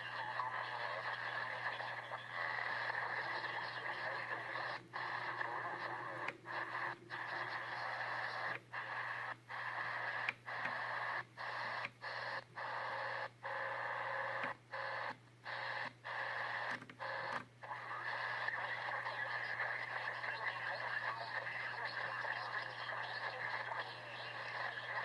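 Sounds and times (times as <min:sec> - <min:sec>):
noisy radio signal: 0:00.0 - 0:25.0.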